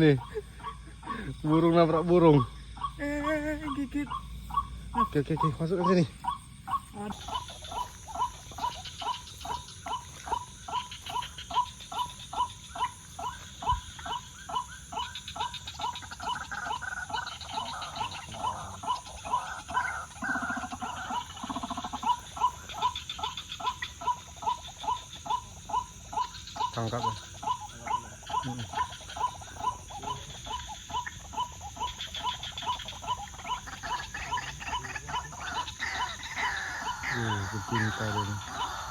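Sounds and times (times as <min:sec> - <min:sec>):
louder rough bird calls: 0:00.0 - 0:38.9
waterhen calling: 0:00.0 - 0:38.9.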